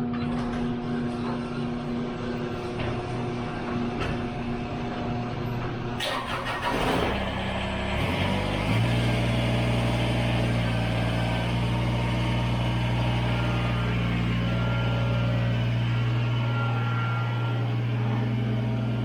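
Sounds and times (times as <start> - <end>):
tractor engine starting and idling: 3.6 - 19.0.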